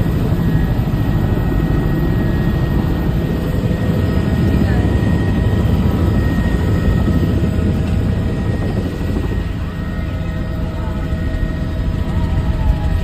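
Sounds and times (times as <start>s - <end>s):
helicopter rotor and engine rumble: 0.0s - 13.0s.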